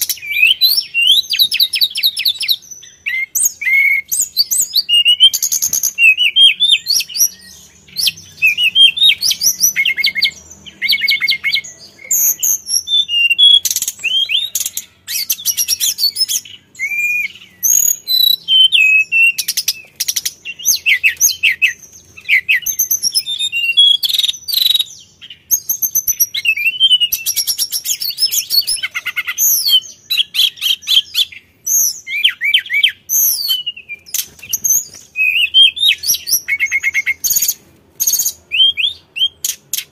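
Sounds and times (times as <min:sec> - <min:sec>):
bird singing whistled phrases and trills: 0:00.0 - 0:39.9.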